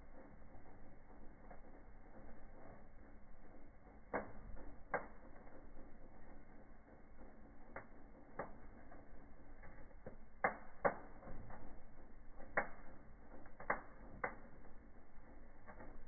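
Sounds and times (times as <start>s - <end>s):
faint hiss of flame: 0.0s - 16.0s
fire crackling and popping: 0.0s - 16.0s.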